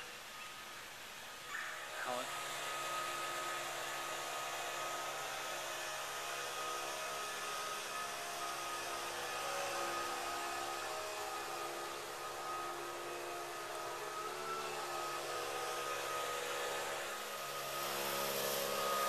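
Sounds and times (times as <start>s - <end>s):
leaf blower whirring: 1.2s - 19.0s.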